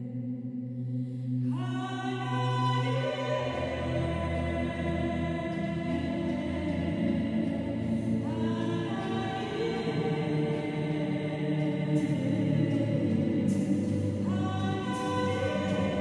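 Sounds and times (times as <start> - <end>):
low choral chords: 0.0 - 16.0
woman singing: 1.5 - 16.0.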